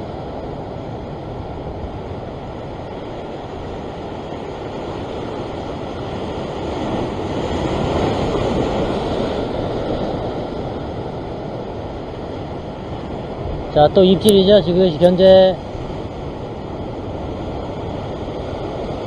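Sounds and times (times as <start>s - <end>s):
ocean waves breaking on rocks: 0.0s - 19.0s.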